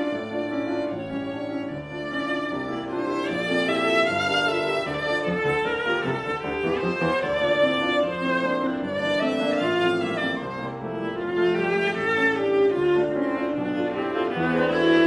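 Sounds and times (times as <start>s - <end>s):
piano accompaniment: 0.0s - 15.0s
viola bowed melody: 0.0s - 15.0s.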